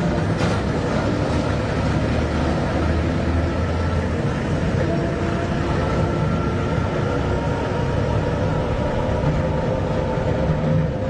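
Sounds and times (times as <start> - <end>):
vehicle running: 0.0 - 11.0.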